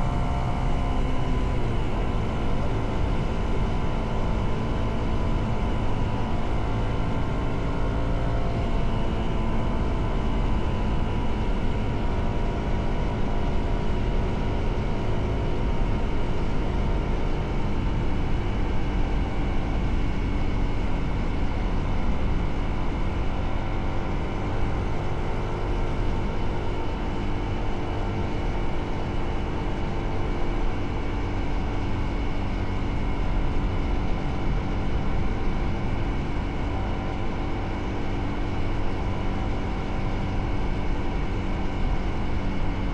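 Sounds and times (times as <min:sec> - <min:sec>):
wind and road noise: 0:00.0 - 0:42.9.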